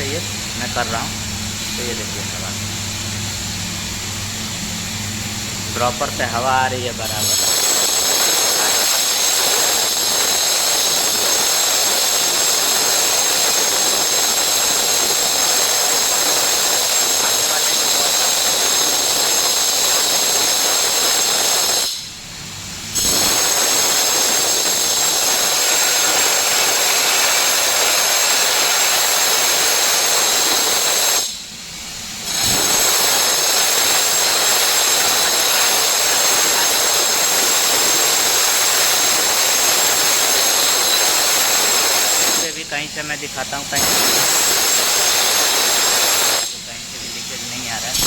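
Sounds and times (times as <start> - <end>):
air hissing from duct: 5.7 - 22.2, 22.8 - 48.0.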